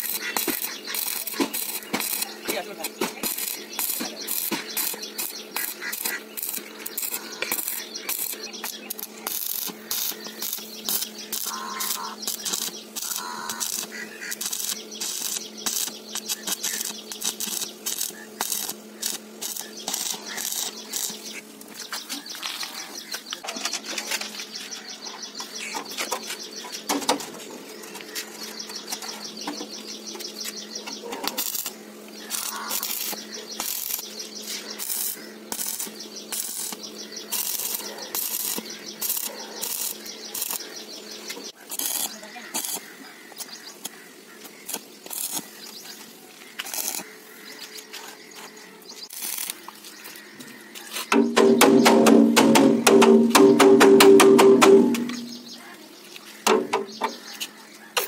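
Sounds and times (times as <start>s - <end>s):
steady low hum: 0.0s - 58.0s
welding arc crackling and sputtering: 0.0s - 58.0s.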